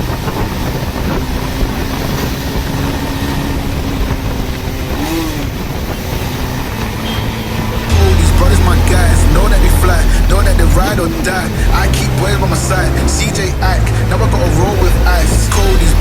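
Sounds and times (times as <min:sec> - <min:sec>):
motorcycle: 0:00.0 - 0:16.0
road traffic noise: 0:00.0 - 0:16.0.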